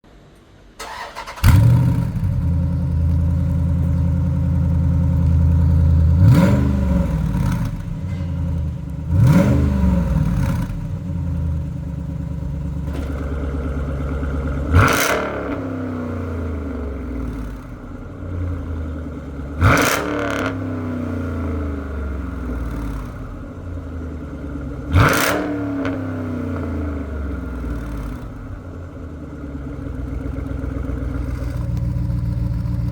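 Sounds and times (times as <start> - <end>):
car engine revving: 0.8 - 28.7.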